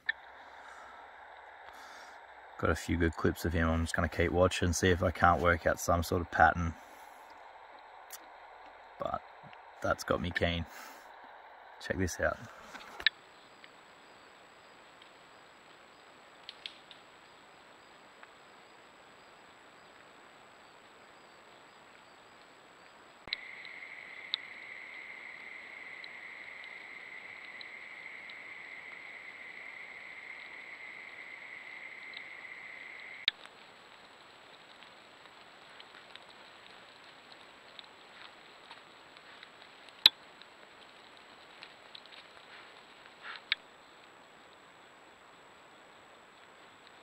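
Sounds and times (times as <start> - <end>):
faint steady hiss: 0.0 - 47.0.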